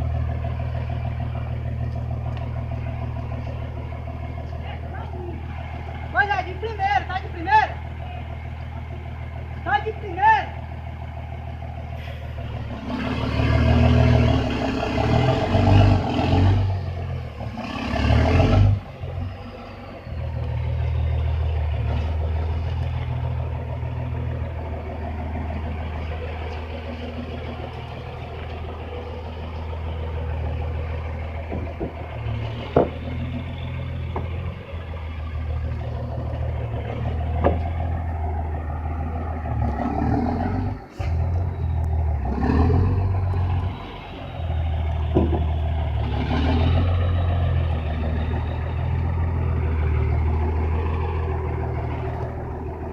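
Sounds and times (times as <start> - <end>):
heavy truck engine revving: 0.0 - 52.9.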